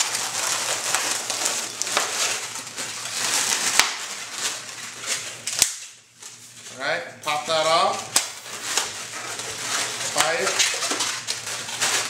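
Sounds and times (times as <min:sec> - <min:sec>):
balloons squeaking and rubbing: 0:00.0 - 0:05.4, 0:07.3 - 0:12.0.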